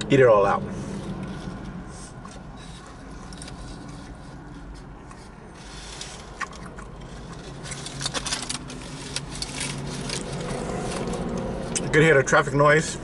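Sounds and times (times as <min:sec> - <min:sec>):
low traffic hum: 0:00.0 - 0:13.0
wet chewing: 0:01.2 - 0:11.7.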